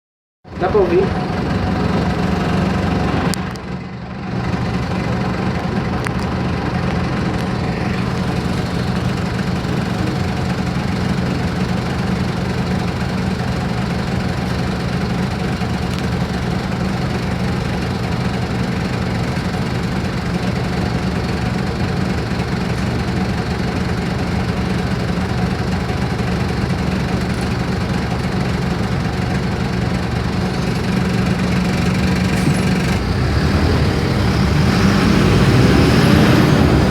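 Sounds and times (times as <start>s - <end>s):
bus diesel engine idling: 0.5s - 36.9s.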